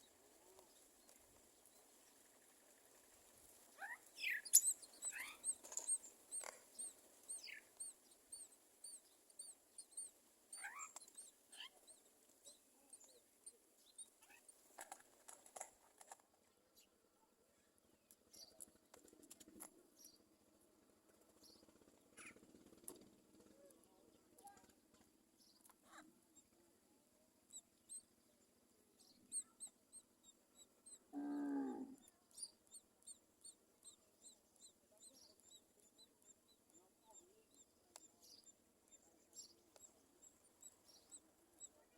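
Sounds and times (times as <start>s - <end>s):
faint bird chirps and calls: 0.0s - 20.5s, 21.1s - 41.9s.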